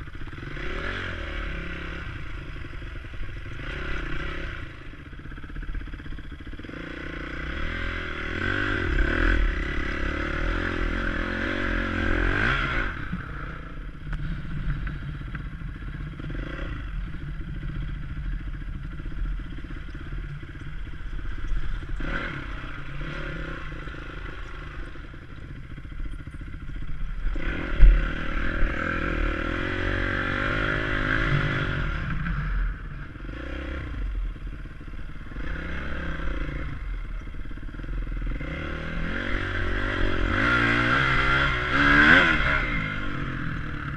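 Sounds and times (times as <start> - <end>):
chassis clatter over dirt: 0.0 - 43.9
motorcycle engine revving: 0.0 - 43.9.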